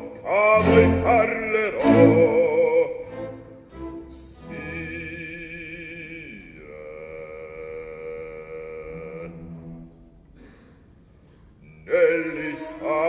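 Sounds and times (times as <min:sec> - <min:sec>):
opera orchestra playing: 0:00.0 - 0:10.4, 0:11.7 - 0:13.0.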